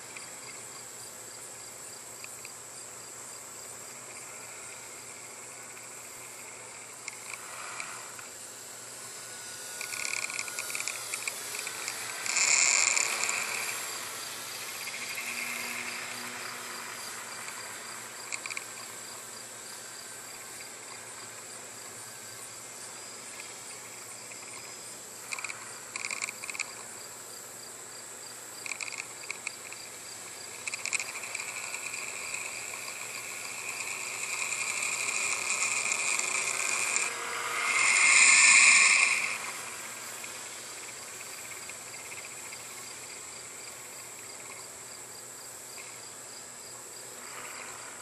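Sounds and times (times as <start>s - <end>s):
insect buzz: 0.0s - 48.0s
insects chirring: 0.0s - 48.0s.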